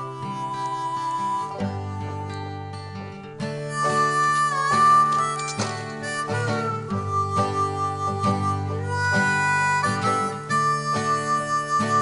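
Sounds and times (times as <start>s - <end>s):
guitar accompaniment: 0.0s - 12.0s
harmonica melody: 0.0s - 12.0s.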